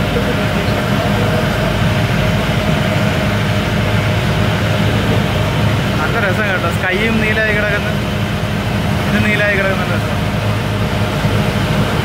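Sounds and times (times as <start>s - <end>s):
ferry engine droning: 0.0s - 12.0s.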